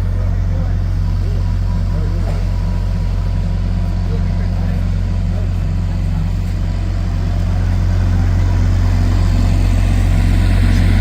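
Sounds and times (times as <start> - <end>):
loud low mechanical hum: 0.0 - 11.0.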